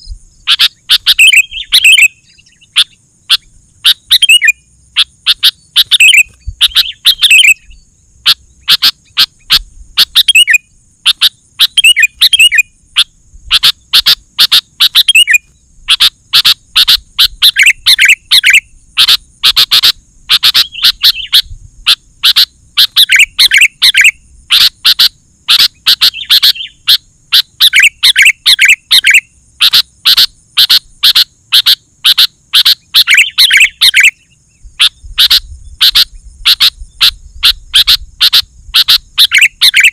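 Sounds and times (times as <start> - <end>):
bird chirping and warbling: 0.0 - 39.9
faint high-pitched hum: 0.0 - 39.9.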